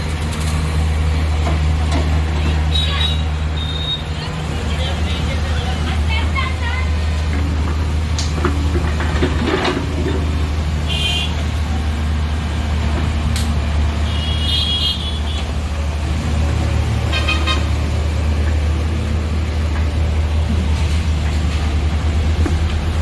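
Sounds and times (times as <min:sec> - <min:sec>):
heavy diesel engine humming: 0:00.0 - 0:23.0.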